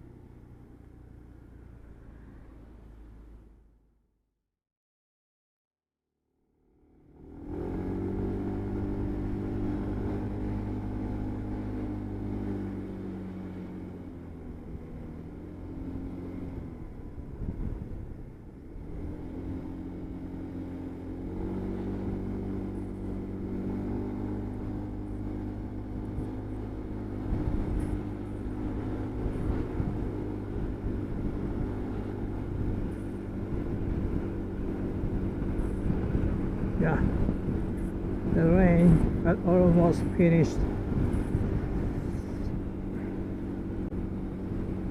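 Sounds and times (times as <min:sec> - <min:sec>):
wind and road noise: 0:00.0 - 0:04.1, 0:06.4 - 0:44.9
motorcycle engine running: 0:06.6 - 0:44.9.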